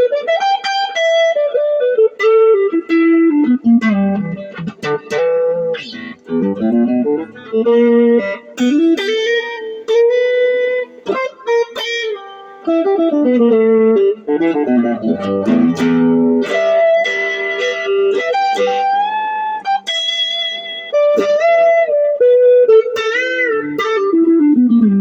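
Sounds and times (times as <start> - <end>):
overdriven electric guitar blues line: 0.0 - 25.0.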